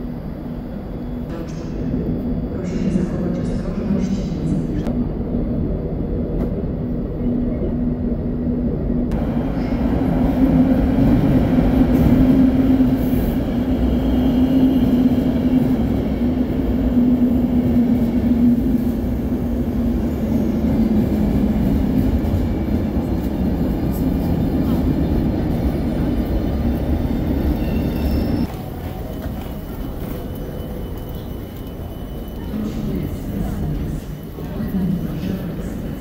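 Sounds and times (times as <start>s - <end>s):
train rumbling past: 0.0s - 36.0s.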